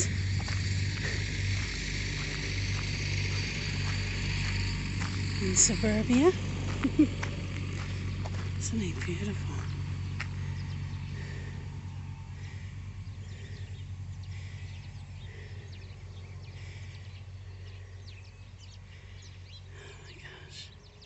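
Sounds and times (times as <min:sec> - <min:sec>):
tractor engine running: 0:00.0 - 0:20.1
birds chirping: 0:00.0 - 0:21.0.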